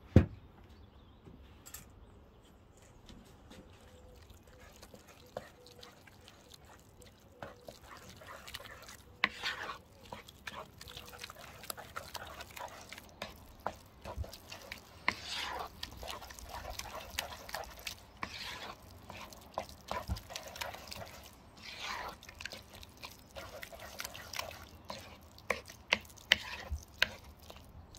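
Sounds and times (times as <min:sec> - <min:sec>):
wet squelching of stirred dip: 0:03.2 - 0:27.9.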